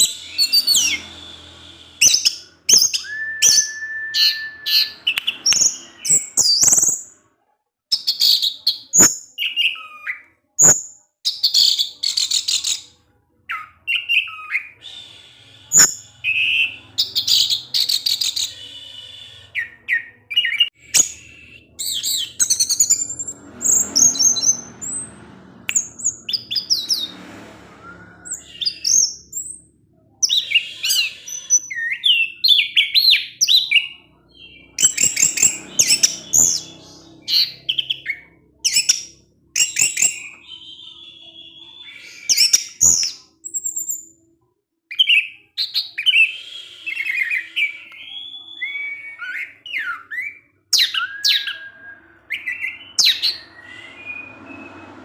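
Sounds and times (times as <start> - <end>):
bird chirping song: 0.0 - 7.3, 7.9 - 44.3, 44.9 - 55.0.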